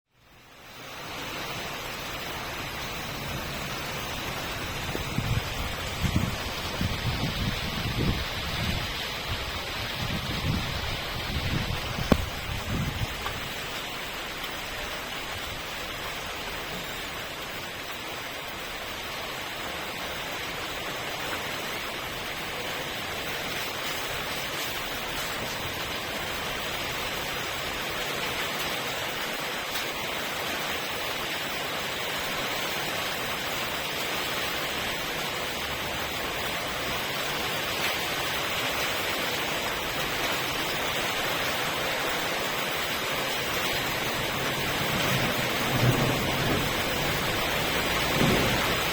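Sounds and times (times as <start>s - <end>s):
steady rain falling: 0.1s - 48.9s.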